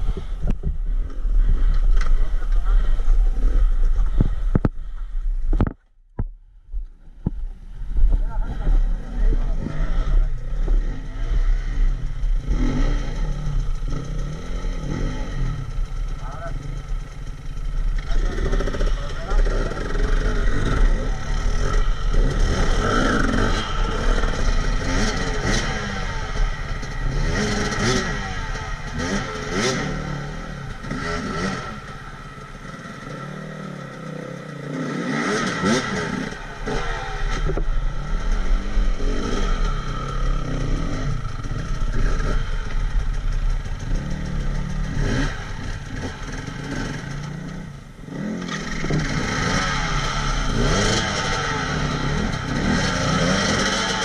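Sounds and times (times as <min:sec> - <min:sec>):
vehicle engine revving: 0:07.8 - 0:54.0.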